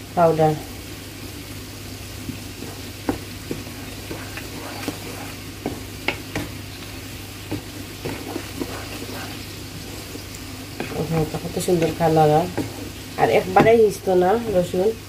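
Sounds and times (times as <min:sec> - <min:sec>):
garlic sizzling in oil: 0:00.0 - 0:15.0
wooden spatula scraping pan: 0:02.3 - 0:14.8.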